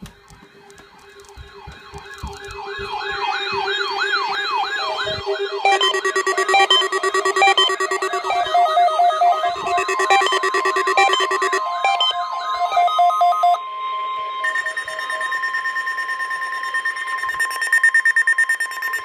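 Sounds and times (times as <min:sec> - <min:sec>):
electronic siren wailing: 0:00.1 - 0:19.0
stepped beeping alarm tone: 0:00.2 - 0:19.0.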